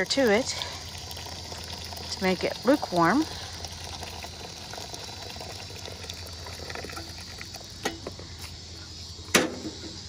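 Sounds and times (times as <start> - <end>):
water pouring and splashing: 0.0 - 8.2.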